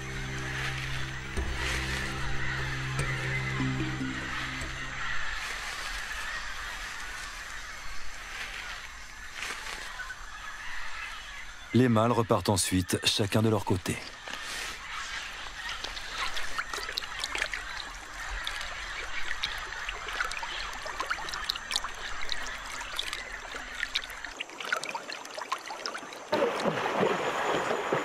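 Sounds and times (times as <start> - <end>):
water splashing: 0.0 - 10.0, 14.0 - 28.0
river water lapping and trickling: 0.0 - 28.0.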